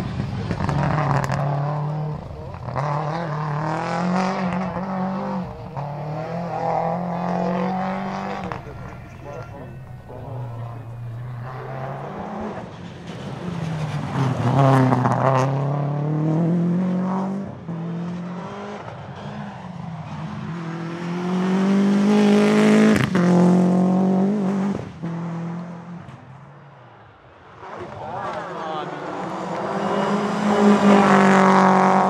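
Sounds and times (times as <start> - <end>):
rally car engine revving: 0.0 - 26.1, 27.5 - 32.0.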